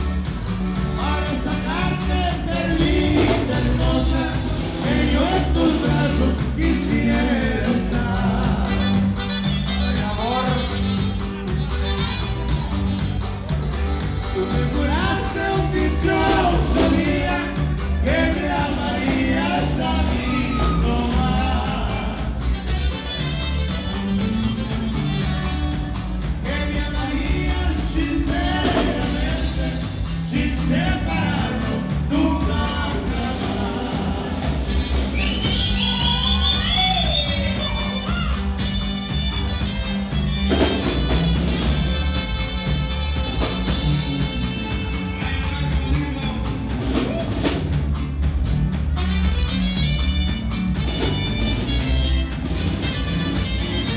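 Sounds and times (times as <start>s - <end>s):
button accordion: 0.0s - 20.0s, 22.0s - 27.3s, 33.2s - 46.7s, 48.6s - 53.9s
drum kit: 0.0s - 53.9s
guitars: 0.0s - 53.9s
saxophone: 0.0s - 53.9s.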